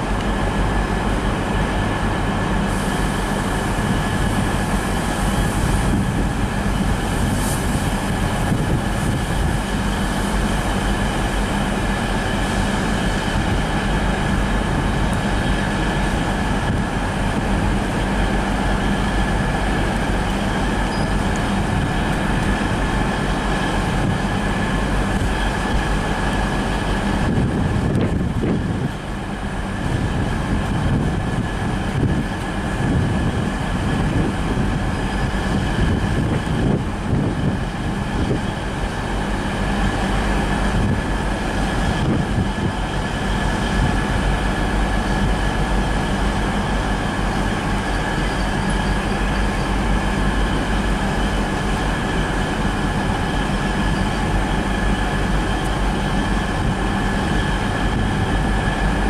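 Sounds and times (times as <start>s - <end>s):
electric train rumbling with high tone: 0.0s - 59.0s.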